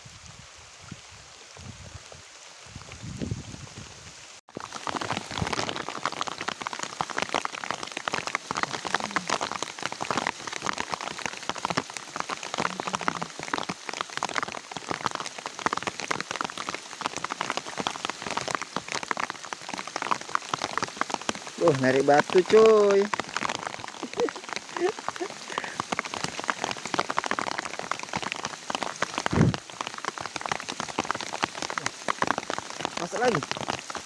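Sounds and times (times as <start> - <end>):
rain striking a surface: 0.2 - 34.0.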